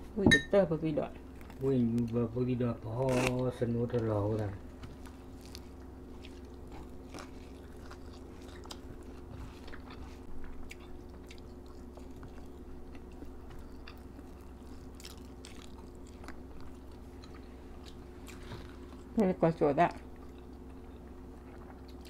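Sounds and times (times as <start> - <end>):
faint steady hum: 0.0 - 22.0
people chewing food: 1.2 - 22.0.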